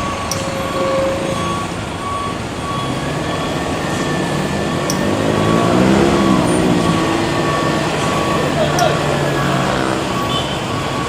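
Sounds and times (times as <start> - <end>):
heavy truck engine running: 0.0 - 11.0
road noise: 0.0 - 11.0.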